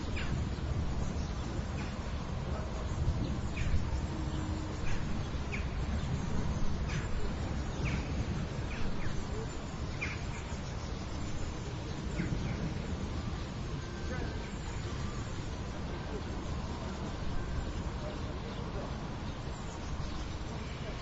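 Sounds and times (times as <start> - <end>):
birds chirping: 0.0 - 21.0
low rumble of city noise: 0.0 - 21.0.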